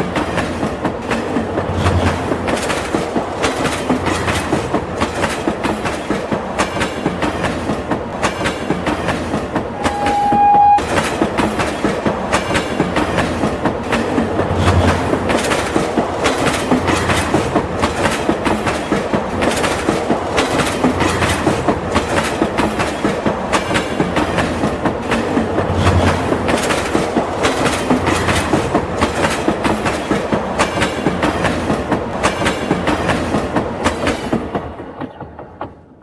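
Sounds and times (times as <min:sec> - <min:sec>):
train running rumble: 0:00.0 - 0:35.6
train wheels clickety-clack: 0:00.0 - 0:36.0.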